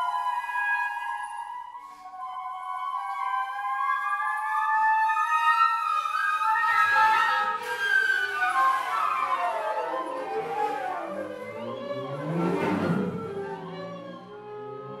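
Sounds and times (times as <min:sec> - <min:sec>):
contemporary chamber music: 0:00.0 - 0:15.0.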